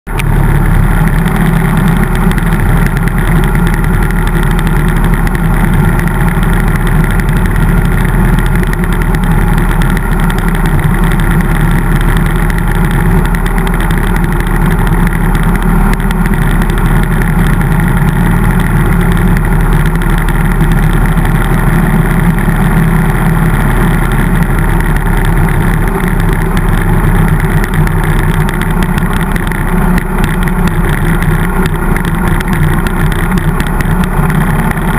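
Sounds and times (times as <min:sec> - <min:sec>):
motorcycle engine cruising: 0:00.1 - 0:34.9.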